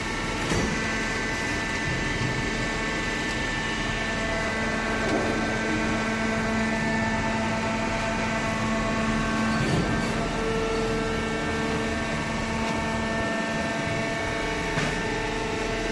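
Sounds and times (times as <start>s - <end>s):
machine hum: 0.0s - 15.9s.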